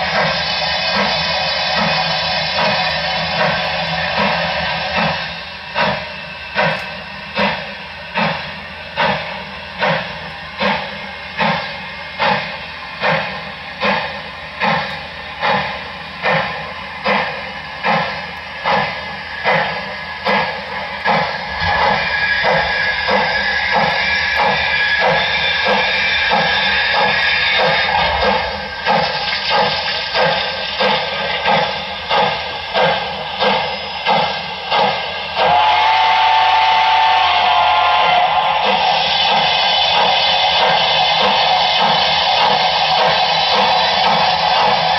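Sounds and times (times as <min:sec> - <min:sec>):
model steam locomotive chuffing: 0:00.0 - 0:44.9
steady hiss of steam: 0:00.0 - 0:44.9.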